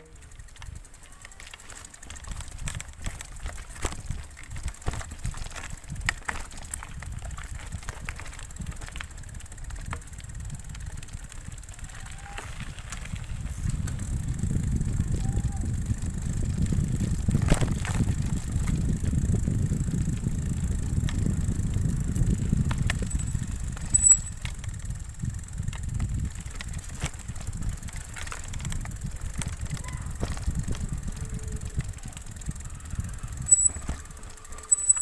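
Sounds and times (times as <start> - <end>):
bicycle tyres rumbling on gravel: 0.0 - 35.0
bike knocking and rattling on stones: 0.0 - 35.0
wind on microphone: 2.3 - 35.0.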